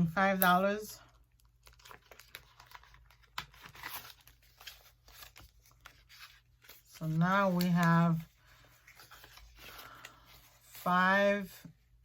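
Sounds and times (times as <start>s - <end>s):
banknotes rustling and crinkling: 0.0s - 11.7s.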